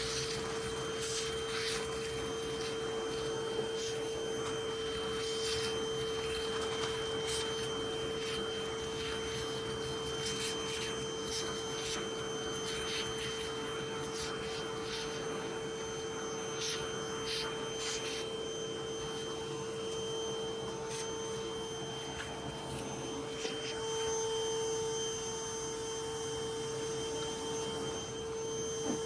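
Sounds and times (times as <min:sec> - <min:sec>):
vacuum motor hum: 0:00.0 - 0:29.0.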